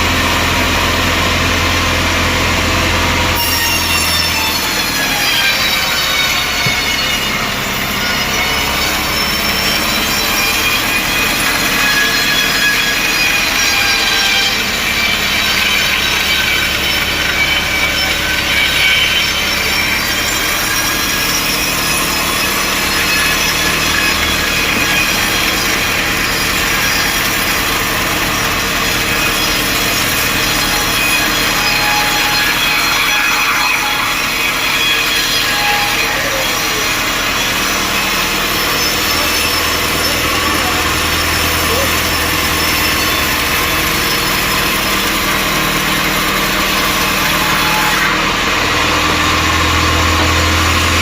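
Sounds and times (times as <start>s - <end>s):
sawmill blade cutting log: 0.0s - 51.0s.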